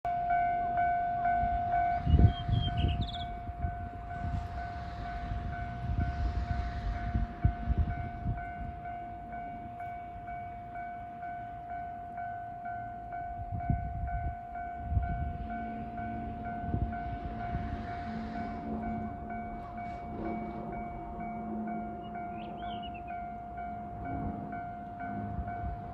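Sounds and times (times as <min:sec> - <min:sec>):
level crossing warning bell: 0:00.1 - 0:25.9
steady tone: 0:00.1 - 0:25.9
train passing rumble: 0:00.1 - 0:25.9.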